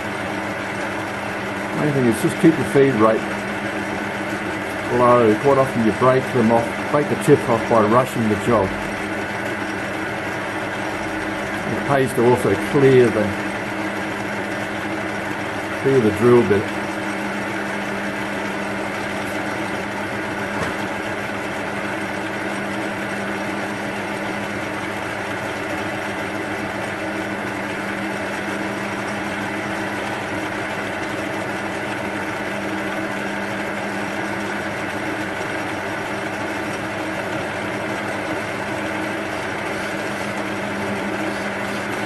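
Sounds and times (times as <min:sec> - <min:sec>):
metal lathe motor hum: 0:00.0 - 0:42.0.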